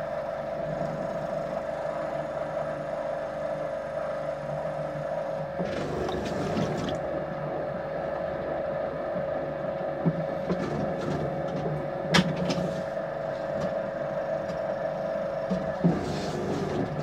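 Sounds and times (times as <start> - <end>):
potter's wheel humming: 0.0 - 17.0.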